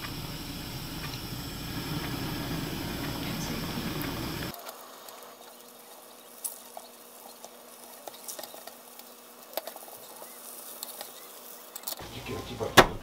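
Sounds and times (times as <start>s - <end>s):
faint egg sizzling: 0.0s - 12.2s.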